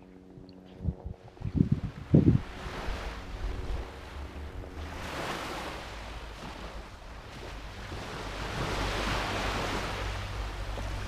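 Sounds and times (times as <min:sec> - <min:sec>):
wind rumble on microphone: 0:00.0 - 0:11.0
waves breaking on beach: 0:01.4 - 0:11.0.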